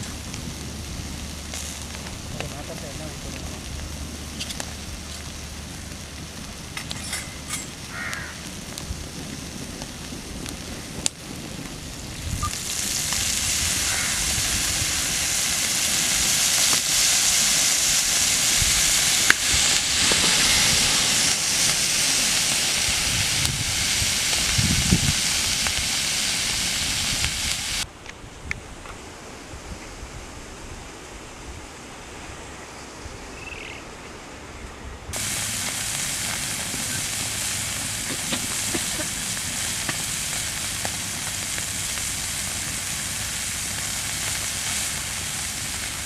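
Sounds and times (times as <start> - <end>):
fish sizzling on a griddle: 0.0 - 27.8, 35.2 - 46.0.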